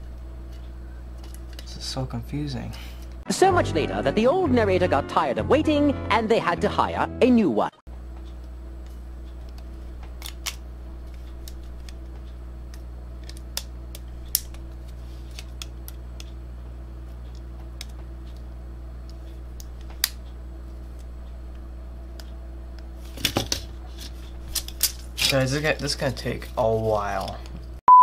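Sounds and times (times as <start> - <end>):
steady low hum: 0.0 - 5.8, 7.9 - 27.8.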